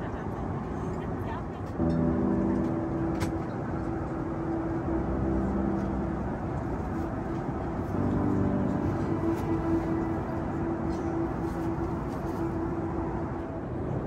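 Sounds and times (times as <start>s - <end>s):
airplane cabin noise: 0.0s - 14.0s
soft background music chords: 1.7s - 14.0s.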